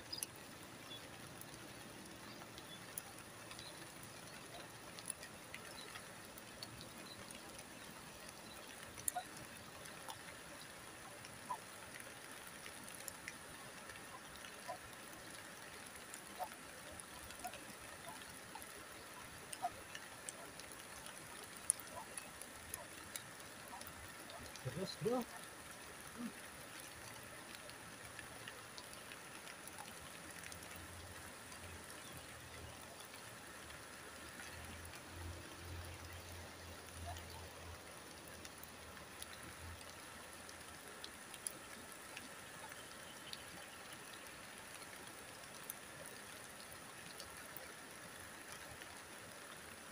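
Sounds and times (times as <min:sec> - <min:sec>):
flowing river water: 0:00.0 - 0:49.9
light drizzle hissing: 0:00.0 - 0:49.9.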